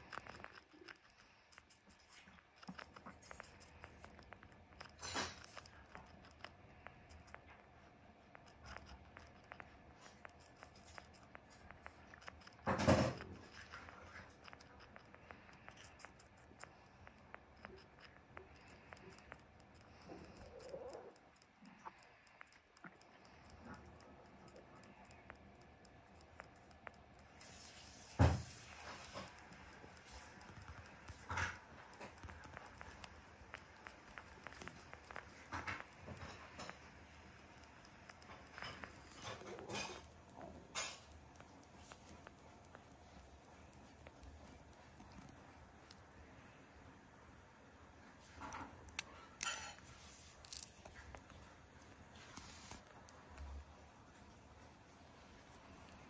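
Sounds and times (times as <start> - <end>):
hamster chewing: 0.0 - 56.0.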